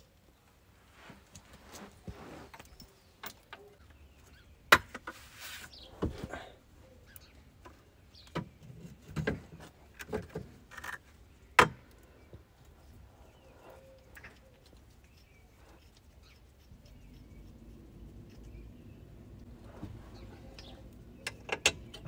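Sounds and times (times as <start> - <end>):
birds chirping: 2.0 - 4.8, 5.6 - 10.3, 11.0 - 22.0.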